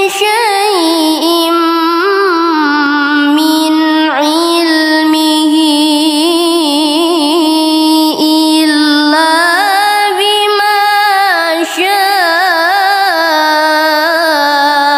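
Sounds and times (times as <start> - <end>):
solo voice in melodic recitation: 0.0 - 14.9.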